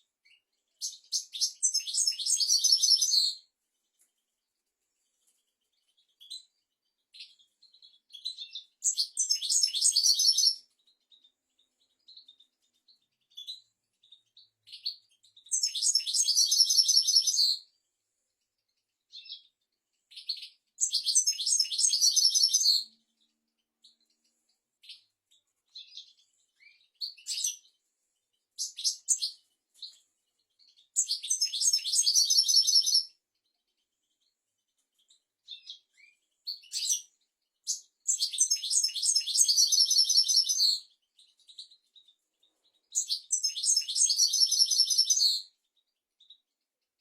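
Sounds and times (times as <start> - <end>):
goldfinch chirping and twittering: 0.2 - 4.2, 5.2 - 17.7, 18.6 - 46.6.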